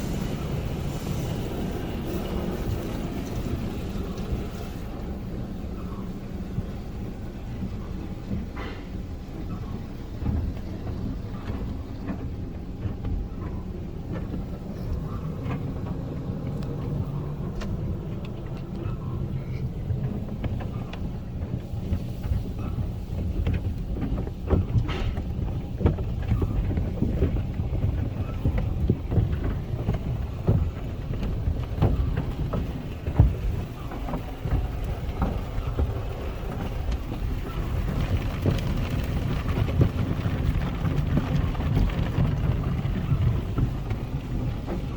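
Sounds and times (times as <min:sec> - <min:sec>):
car wash spraying and machinery: 0:00.0 - 0:44.9
wash brushes slapping car body: 0:00.0 - 0:44.9.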